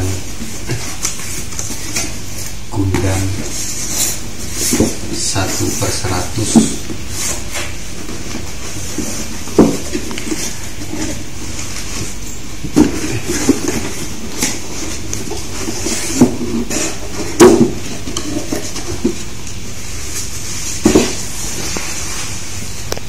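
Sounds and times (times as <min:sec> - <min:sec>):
cardboard bumping and rustling: 0:00.0 - 0:22.9
steady hiss: 0:00.0 - 0:23.0.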